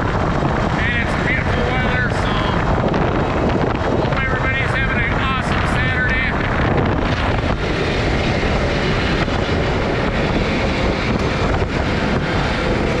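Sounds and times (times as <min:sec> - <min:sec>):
engine and tyre drone: 0:00.0 - 0:13.0
wind rushing over microphone: 0:00.0 - 0:13.0.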